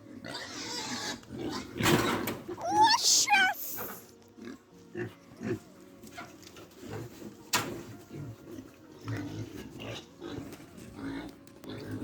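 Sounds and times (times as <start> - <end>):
pigs grunting: 0.0 - 2.6, 3.8 - 12.0.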